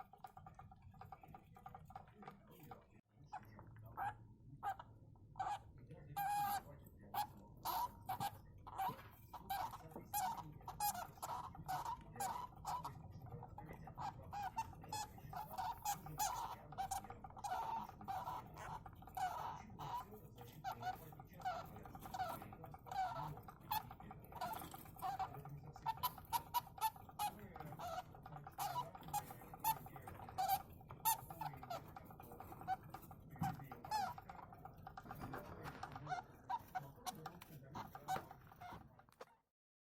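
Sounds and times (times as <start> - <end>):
young hamsters squeaking: 0.0 - 39.5.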